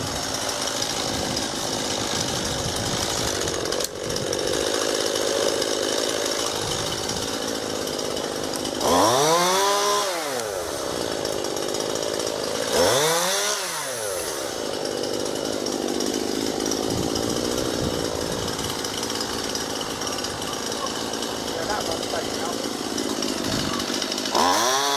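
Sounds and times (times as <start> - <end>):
chainsaw engine revving: 0.0 - 24.9.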